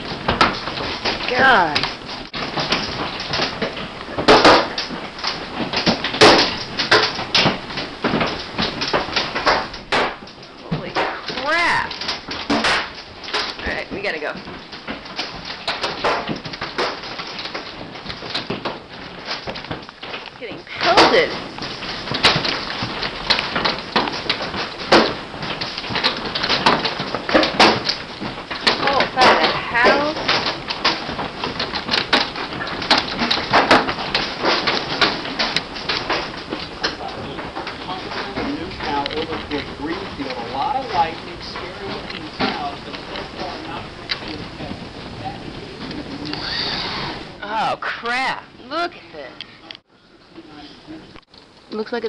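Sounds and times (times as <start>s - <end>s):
loud hail cracks: 0.0s - 48.9s
loud knocks: 0.0s - 49.0s
hailstones pelting hard surfaces: 0.0s - 49.6s, 50.4s - 52.0s
steady hiss: 0.0s - 52.0s.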